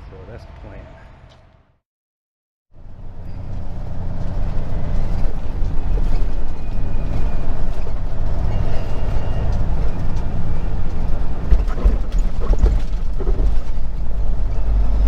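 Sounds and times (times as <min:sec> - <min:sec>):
truck engine and road noise: 0:02.8 - 0:15.0.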